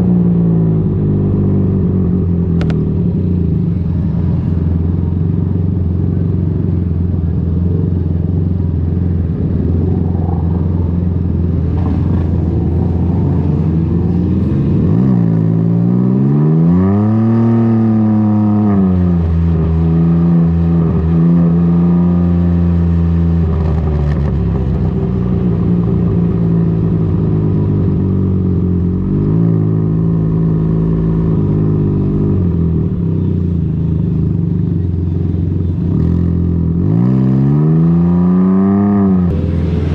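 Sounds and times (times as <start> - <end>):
three-wheeler engine revving: 0.0 - 39.9.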